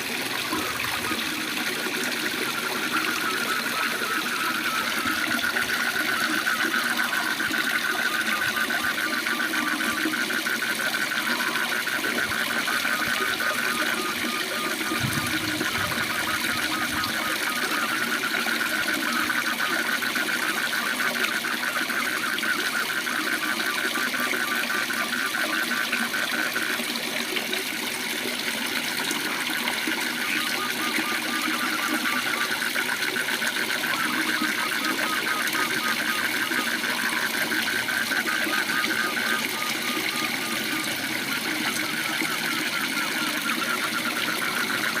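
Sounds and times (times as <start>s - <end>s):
frogs trilling: 0.0s - 45.0s.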